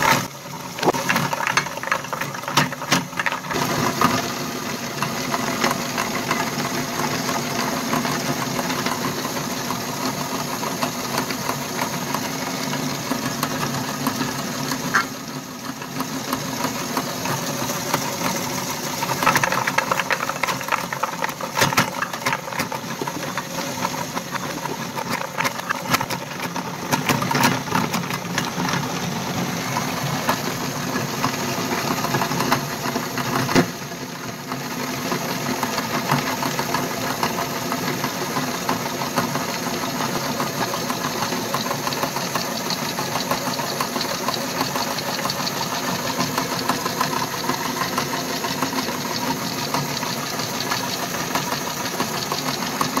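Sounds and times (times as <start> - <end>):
meat grinder running: 0.0 - 53.0.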